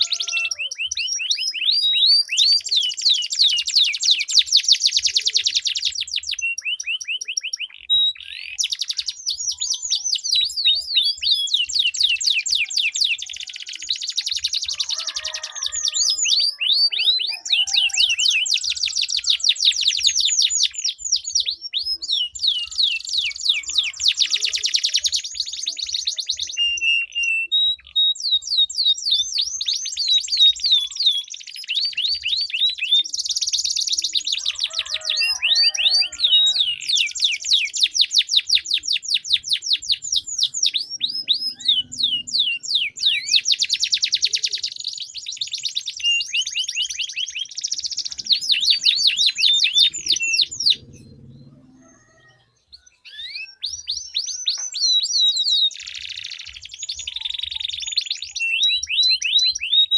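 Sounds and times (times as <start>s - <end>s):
canaries singing rolling trills: 0.0s - 59.9s.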